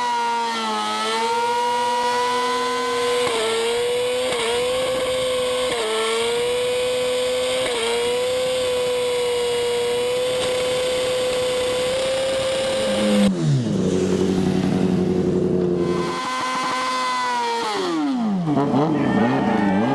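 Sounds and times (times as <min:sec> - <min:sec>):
motorcycle engine running: 0:01.0 - 0:19.9.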